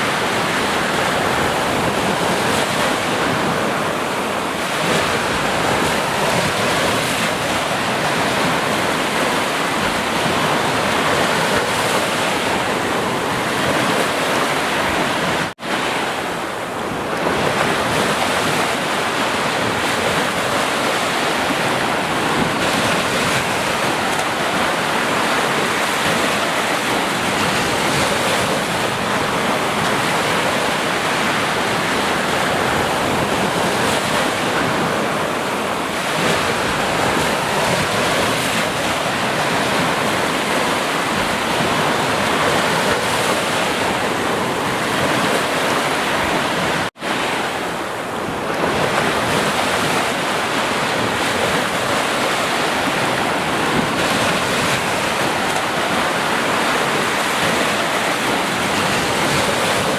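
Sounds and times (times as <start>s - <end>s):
sea waves breaking on shore: 0.0s - 59.9s
wind: 0.0s - 59.9s.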